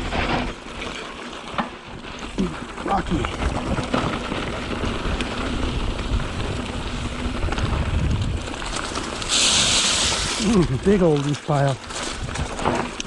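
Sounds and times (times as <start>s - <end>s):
bike clattering: 0.0s - 13.0s
bike tyres crunching over stones: 0.0s - 13.0s
tyres hissing through dry leaves: 0.0s - 13.0s.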